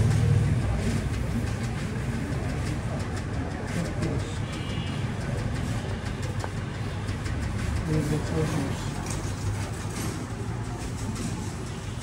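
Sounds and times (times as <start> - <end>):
motor vehicle engine rumble: 0.0 - 12.0.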